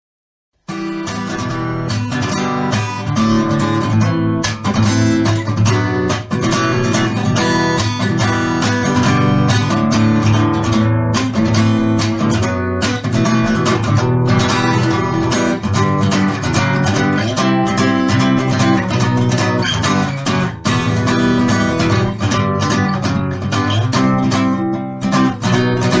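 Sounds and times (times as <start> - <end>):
acoustic guitar strumming: 0.7 - 26.0.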